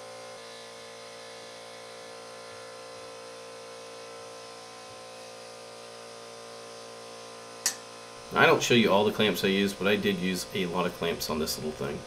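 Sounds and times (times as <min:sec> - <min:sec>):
steady hum of held tones: 0:00.0 - 0:12.0.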